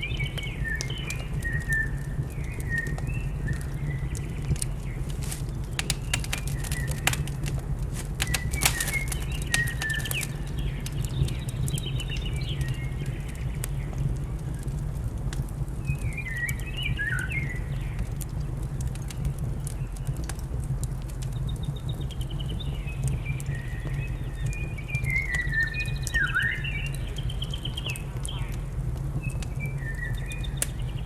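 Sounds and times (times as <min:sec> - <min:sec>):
small birds chirping: 0:00.0 - 0:14.9, 0:15.8 - 0:20.4, 0:21.2 - 0:31.0
steady low rumble: 0:00.0 - 0:25.1, 0:26.7 - 0:31.0
wood fire crackling: 0:00.0 - 0:31.0.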